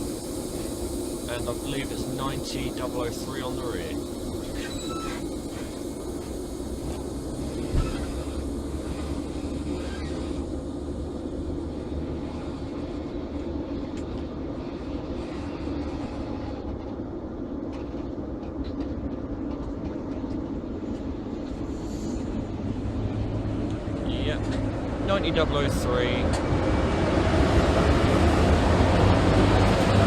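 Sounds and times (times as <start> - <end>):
electric locomotive hum: 0.0 - 30.0
wheels rumbling on rail: 0.0 - 30.0.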